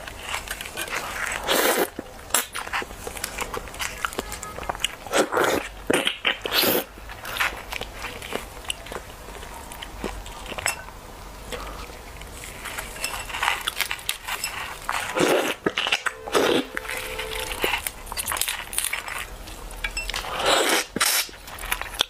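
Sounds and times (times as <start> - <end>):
wet chewing and sucking: 0.0 - 10.6, 11.5 - 22.0.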